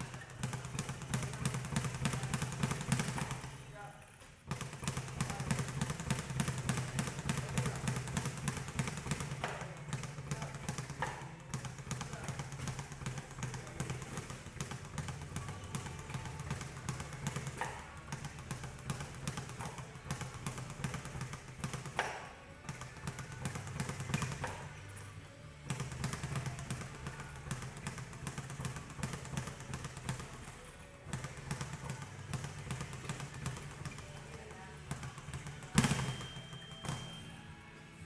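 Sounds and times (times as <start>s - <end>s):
speed bag punching thuds: 0.0s - 3.6s, 4.5s - 24.8s, 25.6s - 37.3s.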